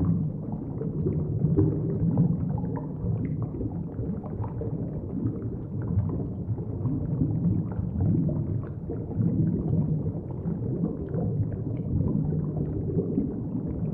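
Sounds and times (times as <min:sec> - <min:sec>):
underwater rumble of moving water: 0:00.0 - 0:13.9.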